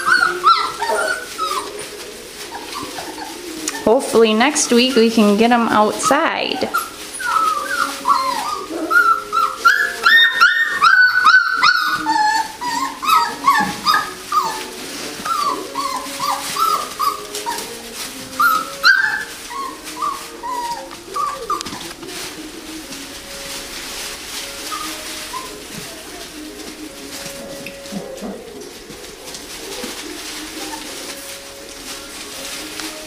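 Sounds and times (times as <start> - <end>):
puppies whimpering and yipping: 0.0 - 33.0.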